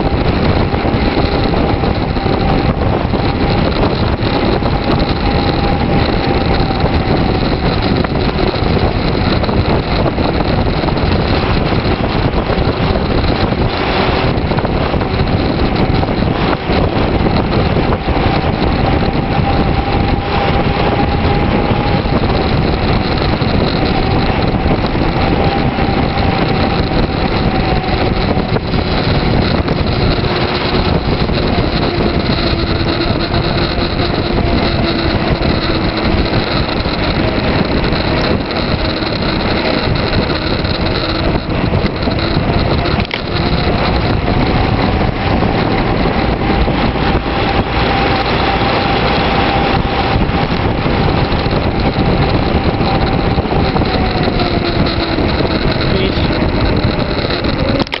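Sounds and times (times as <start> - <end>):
bicycle tyres on asphalt: 0.0 - 58.0
wind rushing over microphone: 0.0 - 58.0.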